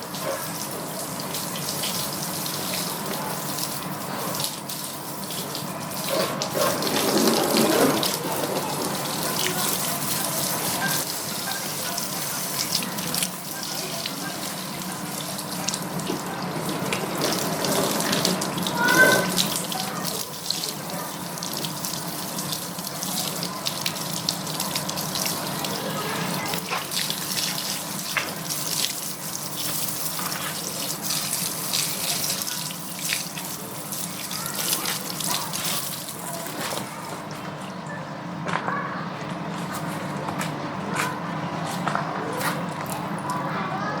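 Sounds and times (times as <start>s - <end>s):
water running and splashing: 0.0s - 37.4s.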